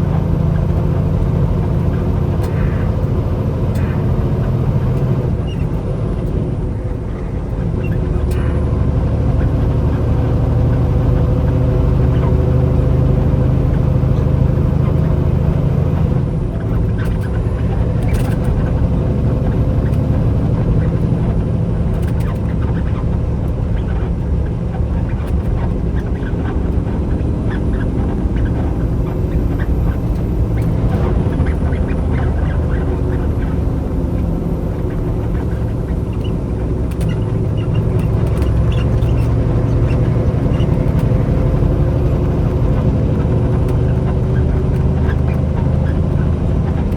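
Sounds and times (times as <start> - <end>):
road noise: 0.0 - 46.9
truck engine running: 0.0 - 46.9.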